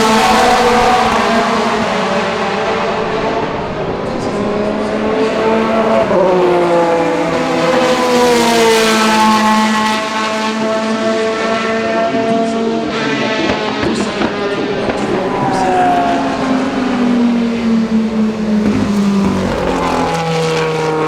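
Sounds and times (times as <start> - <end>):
race car engine at speed: 0.0 - 21.0.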